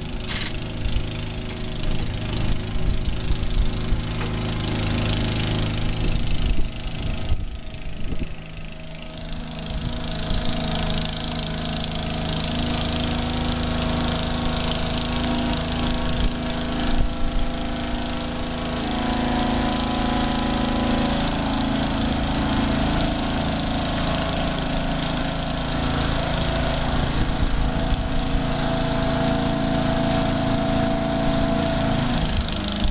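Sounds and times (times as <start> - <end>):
small engine running under load: 0.0 - 32.9.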